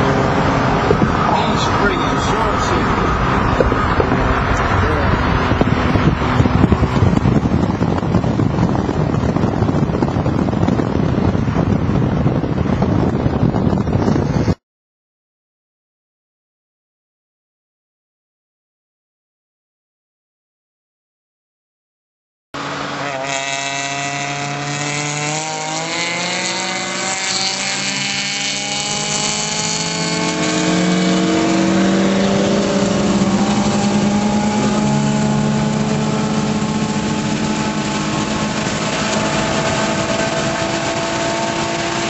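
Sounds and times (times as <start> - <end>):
car engine accelerating hard: 0.0 - 14.5, 22.6 - 42.0
road and wind noise: 0.0 - 14.6, 22.6 - 42.0.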